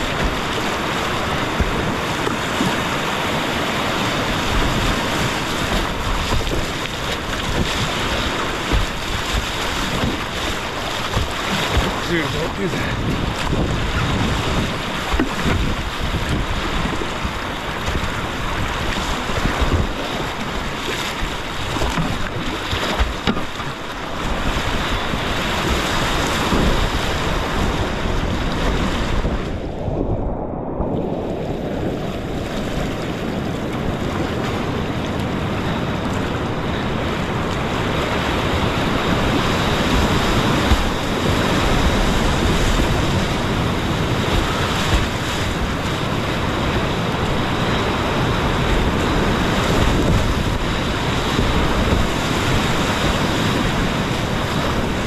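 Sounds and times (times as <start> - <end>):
creek rapids rushing: 0.0 - 29.5, 32.3 - 55.0
wind buffeting microphone: 0.0 - 55.0.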